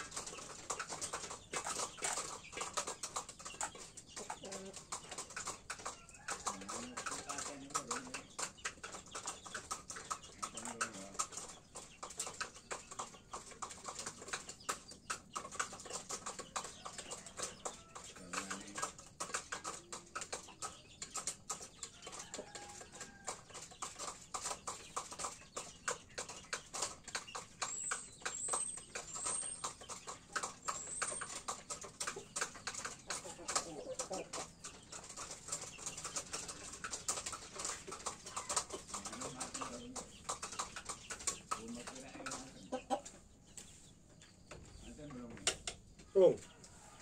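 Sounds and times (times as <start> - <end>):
patter of irregular clicks: 0.0 - 43.7, 44.5 - 46.8
chickens calling softly: 0.0 - 47.0.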